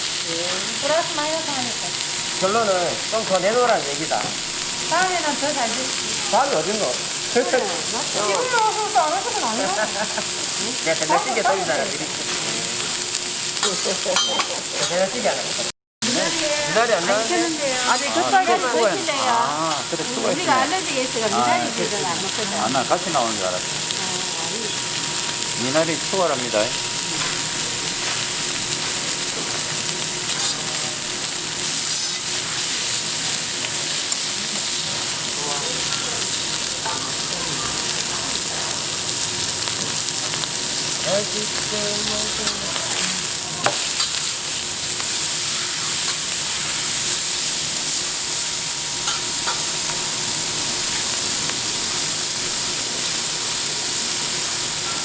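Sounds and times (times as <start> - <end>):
meat sizzling on a griddle: 0.0 - 55.0.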